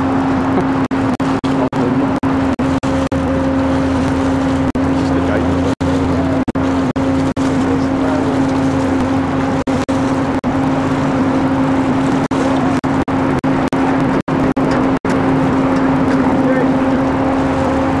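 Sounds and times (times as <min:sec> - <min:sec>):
boat engine drone: 0:00.0 - 0:18.0
rushing water noise: 0:00.0 - 0:18.0.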